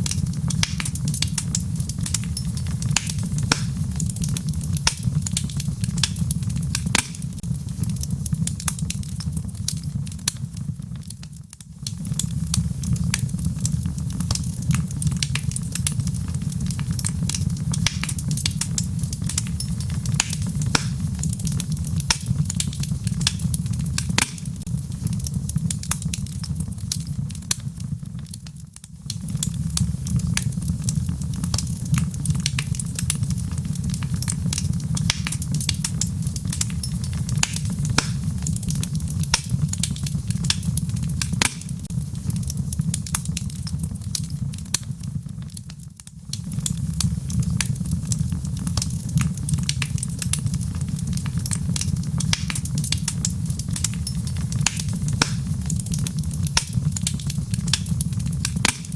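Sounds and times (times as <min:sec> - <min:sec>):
fireplace fire crackling and popping: 0:00.0 - 0:58.9.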